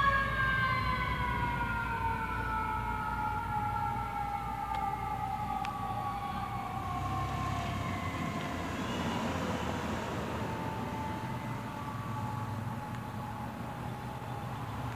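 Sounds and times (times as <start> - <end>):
fire truck siren wailing: 0.0 - 14.9.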